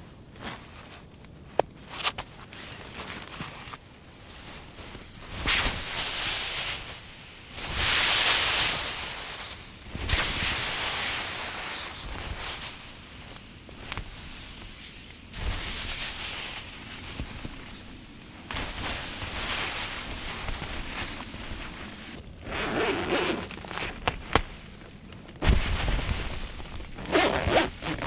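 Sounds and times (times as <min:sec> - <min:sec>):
rustling and brushing: 0:00.4 - 0:28.0.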